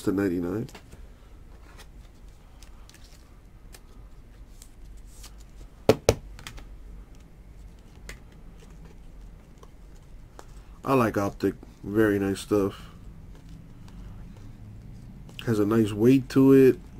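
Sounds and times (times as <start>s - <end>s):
cards rustling and ticking: 0.6s - 5.8s, 6.4s - 16.9s.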